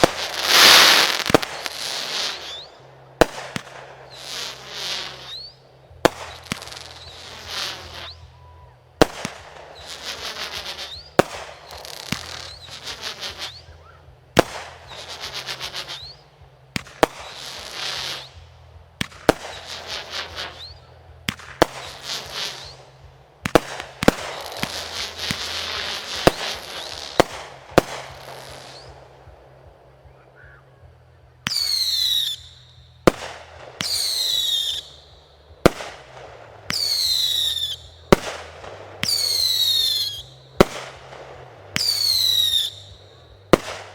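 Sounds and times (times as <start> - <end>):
whistling firework shells: 0.0 - 29.4, 31.4 - 43.9.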